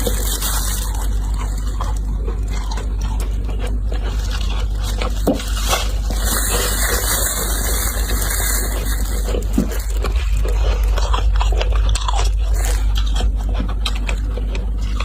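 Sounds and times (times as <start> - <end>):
frost being scraped and crushed: 0.0 - 13.7
steady low hum: 0.0 - 15.0.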